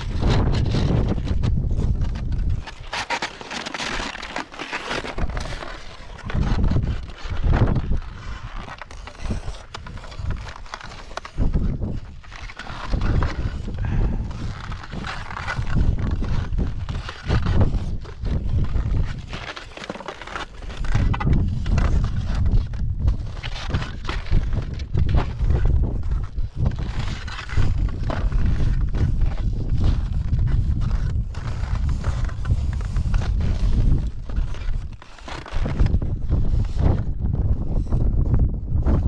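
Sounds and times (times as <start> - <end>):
wind gusts on microphone: 0.0 - 2.8, 6.2 - 10.6, 11.2 - 19.4, 20.7 - 39.0
skis scraping over snow: 0.0 - 37.1.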